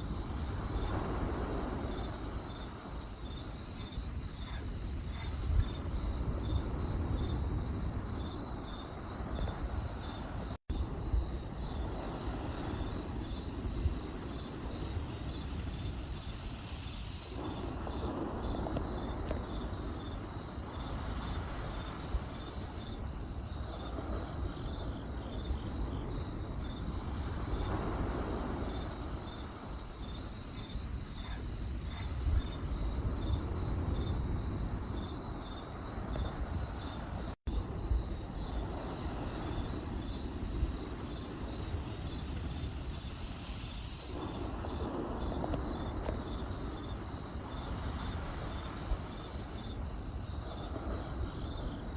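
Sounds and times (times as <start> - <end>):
campfire rumbling and crackling: 0.0 - 51.9
crickets chirping: 0.0 - 51.9.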